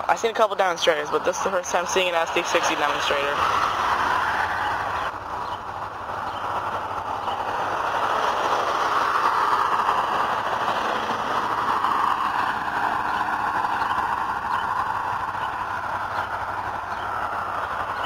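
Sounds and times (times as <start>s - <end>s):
diesel locomotives passing: 0.0s - 18.0s.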